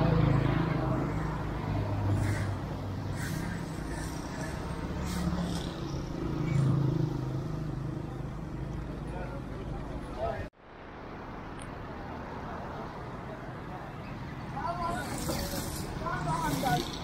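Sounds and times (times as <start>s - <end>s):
traffic noise: 0.0s - 17.0s
vehicle engine hum: 0.0s - 17.0s.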